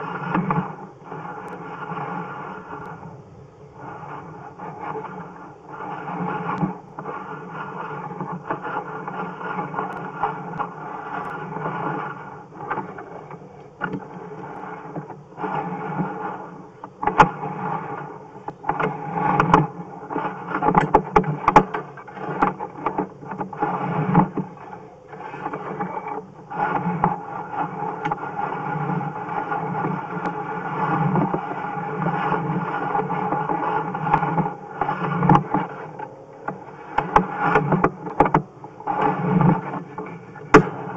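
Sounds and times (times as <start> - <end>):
cable scraping inside pipe: 0.0 - 40.9.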